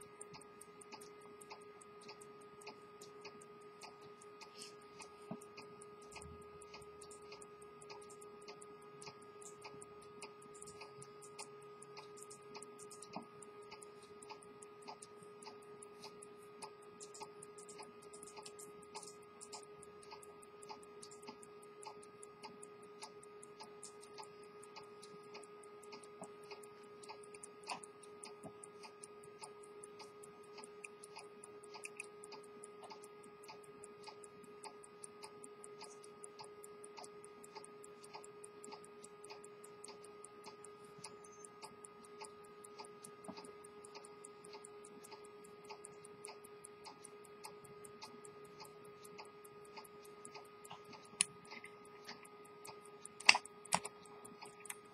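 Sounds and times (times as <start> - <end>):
faint steady hum: 0.0 - 54.9
pocket watch ticking: 0.2 - 54.9.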